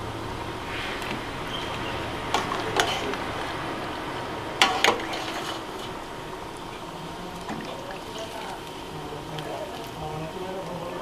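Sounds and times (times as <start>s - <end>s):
ladle stirring thick curry: 0.6s - 11.0s.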